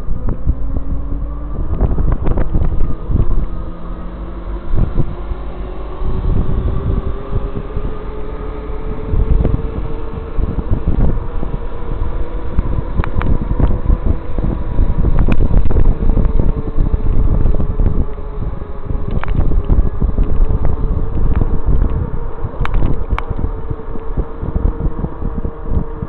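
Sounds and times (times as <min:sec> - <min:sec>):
motor whine: 0:00.0 - 0:26.0
wind buffeting microphone: 0:00.0 - 0:26.0.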